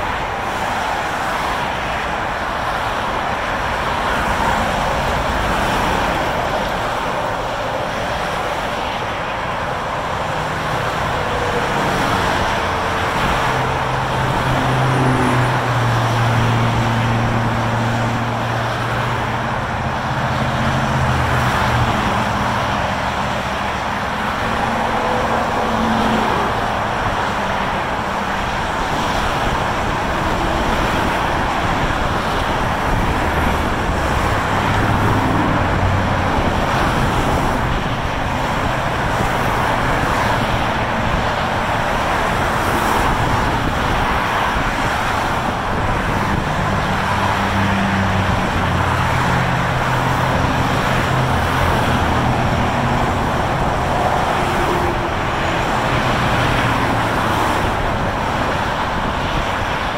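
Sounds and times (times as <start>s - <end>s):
freeway traffic roar: 0.0s - 59.9s.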